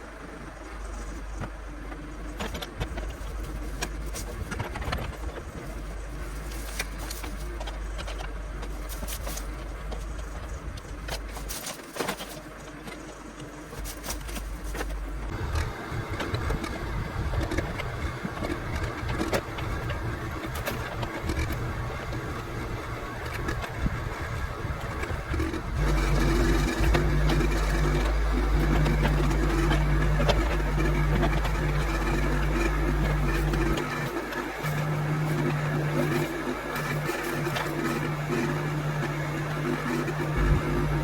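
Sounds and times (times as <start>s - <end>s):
backhoe engine running: 0.0s - 41.0s.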